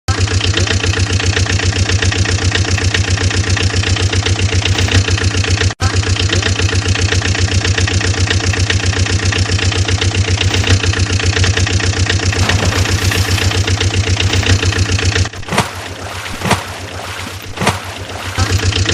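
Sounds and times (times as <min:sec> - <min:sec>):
engine chugging: 0:00.1 - 0:18.9.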